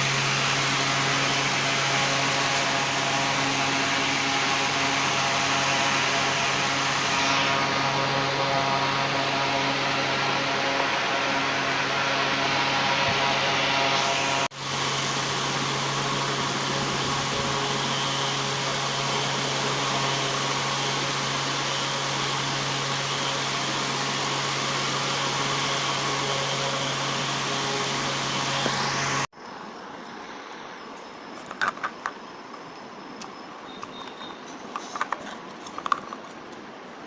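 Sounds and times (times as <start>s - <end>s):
electric fan rushing air: 0.0s - 37.0s.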